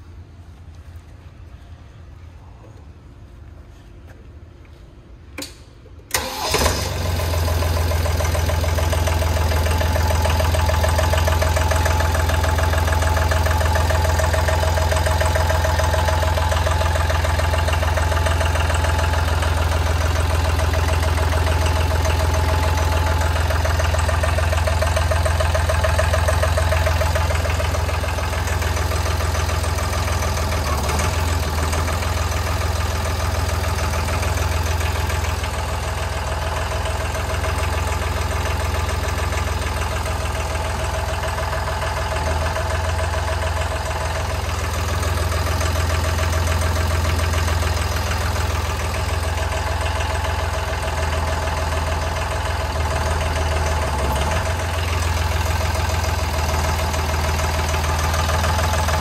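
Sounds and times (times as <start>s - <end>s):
diesel engine cranking and running: 6.1s - 59.0s.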